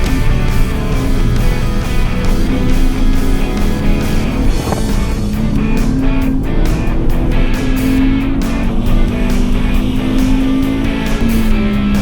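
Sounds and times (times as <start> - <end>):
car engine at high revs: 0.0 - 12.0
rock music with guitar: 0.0 - 12.0.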